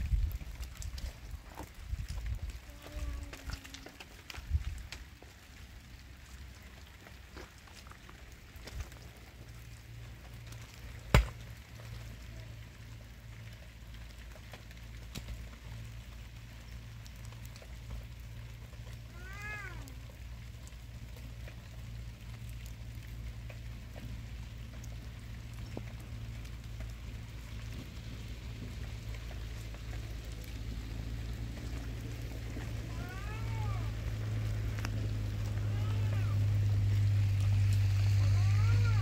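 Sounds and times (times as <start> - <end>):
steady low rumble: 0.0 - 3.7, 4.3 - 39.0
light rain: 0.0 - 39.0.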